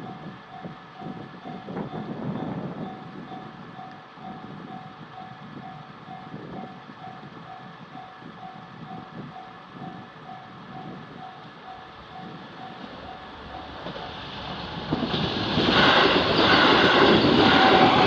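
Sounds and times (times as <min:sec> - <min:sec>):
railroad crossing bell clanging: 0:00.0 - 0:14.2, 0:14.9 - 0:18.0
passing train rumble: 0:00.0 - 0:18.0.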